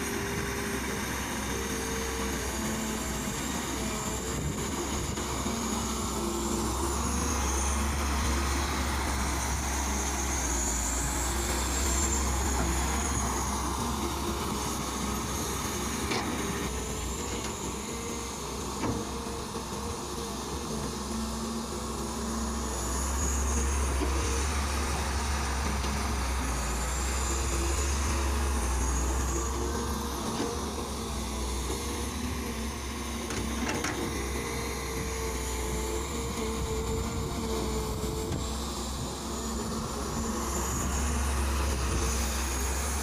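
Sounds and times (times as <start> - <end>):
excavator diesel drone: 0.0 - 43.0.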